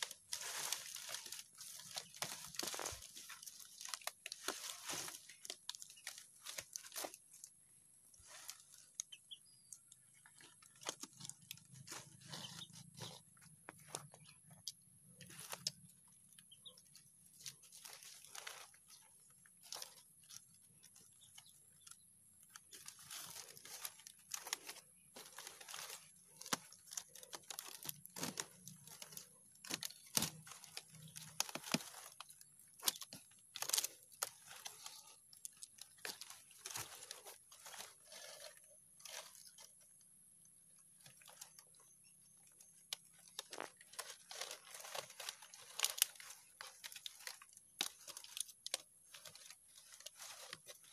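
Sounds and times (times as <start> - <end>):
palm fronds rustling and snapping: 0.0 - 9.1, 9.7 - 50.9.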